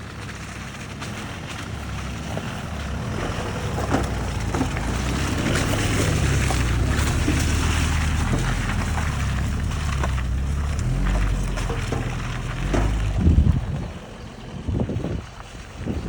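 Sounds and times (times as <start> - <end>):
diesel engine driving off-road: 0.0 - 16.0
gravel clicking under tyres: 0.0 - 16.0.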